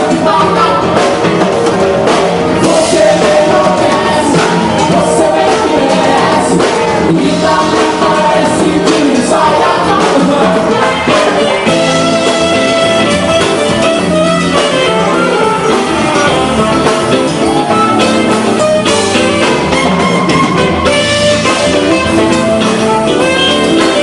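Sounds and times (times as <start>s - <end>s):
drum kit playing: 0.0s - 24.0s
electric guitar playing rock: 0.0s - 24.0s.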